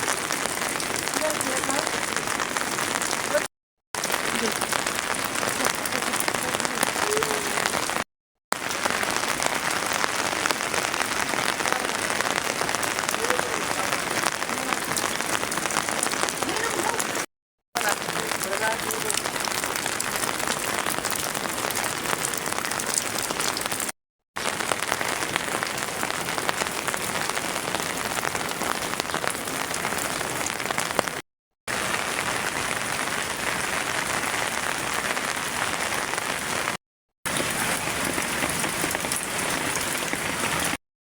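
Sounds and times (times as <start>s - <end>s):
heavy rain: 0.0s - 40.8s.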